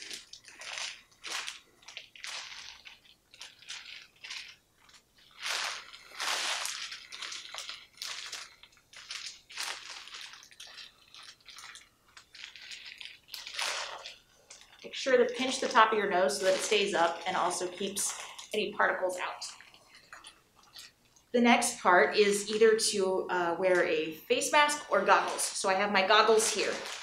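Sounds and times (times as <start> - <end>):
gown and mask rustling: 0.0 - 20.9, 24.6 - 27.0.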